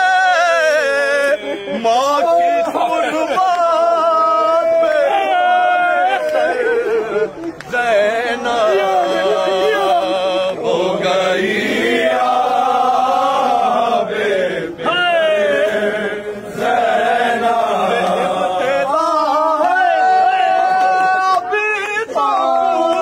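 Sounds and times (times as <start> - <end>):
man chanting a lament: 0.0 - 13.9, 14.5 - 23.0.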